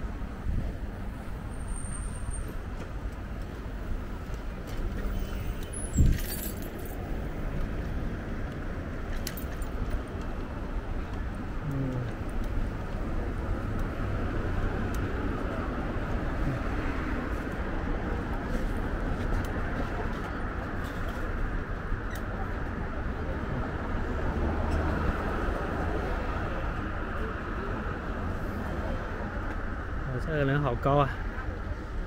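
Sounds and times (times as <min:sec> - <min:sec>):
road and wind noise: 0:00.0 - 0:32.0.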